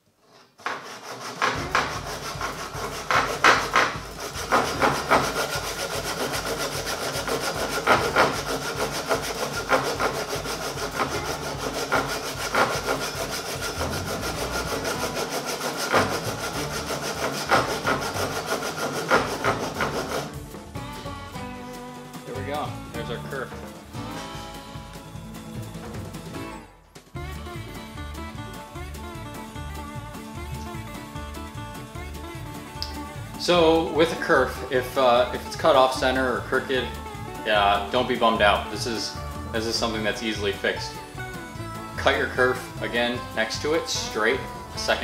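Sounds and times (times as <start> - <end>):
hand saw cutting wood: 0.2 - 21.1, 29.2 - 45.0.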